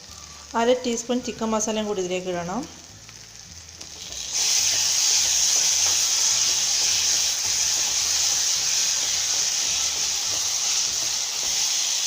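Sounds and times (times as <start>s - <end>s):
paste sizzling in hot oil: 2.1s - 12.0s.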